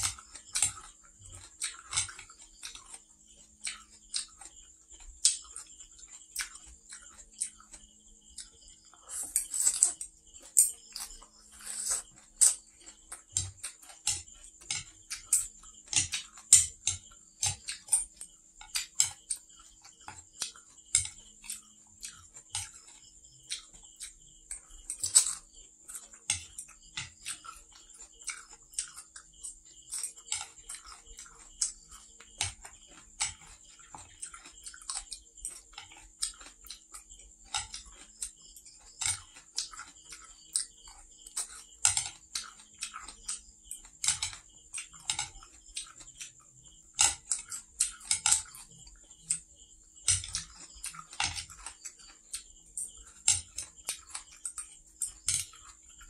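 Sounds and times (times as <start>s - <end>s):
chopsticks clicking on a plate: 0.0s - 55.8s
chewing crunchy food: 0.0s - 56.0s.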